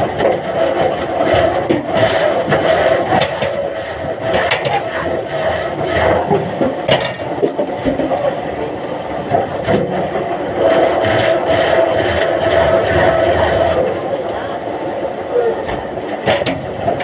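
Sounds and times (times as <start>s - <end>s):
debarking machinery running: 0.0s - 17.0s.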